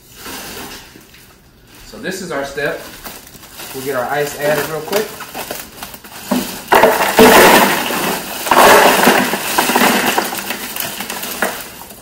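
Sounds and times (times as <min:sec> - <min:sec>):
ice cubes clattering into cooler: 0:02.3 - 0:12.0.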